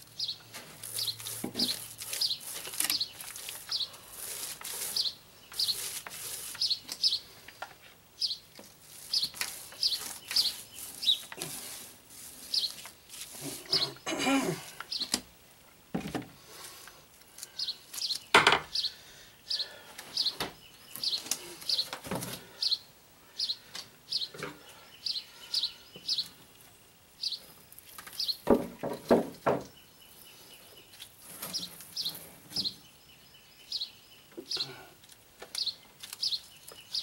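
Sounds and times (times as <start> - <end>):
bird chirping: 0.0 - 11.8, 12.4 - 14.2, 14.8 - 15.2, 17.5 - 28.6, 29.5 - 34.9, 35.5 - 37.0.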